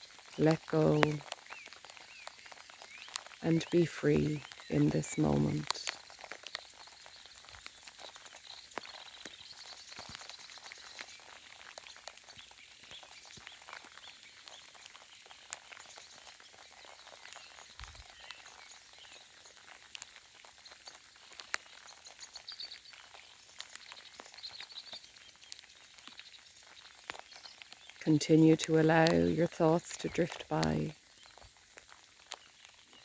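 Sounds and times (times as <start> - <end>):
faint bird chirps and song: 0.0 - 33.0
light rain drops ticking: 0.0 - 33.0.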